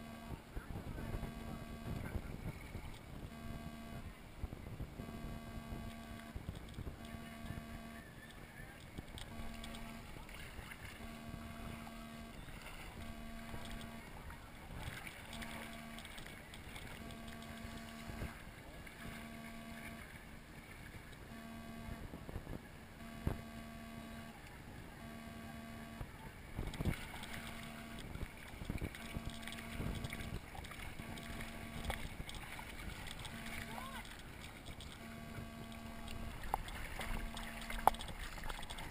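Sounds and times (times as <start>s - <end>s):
low pulsing tone: 0.0s - 38.9s
water lapping and sloshing: 5.9s - 21.9s, 22.6s - 38.9s.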